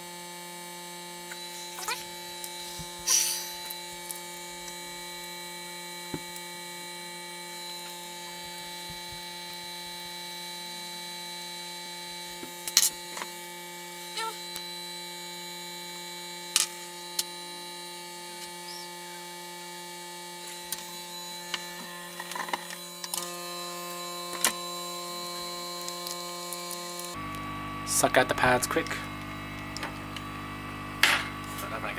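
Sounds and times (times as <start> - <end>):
electrical hum and whine: 0.0 - 31.9.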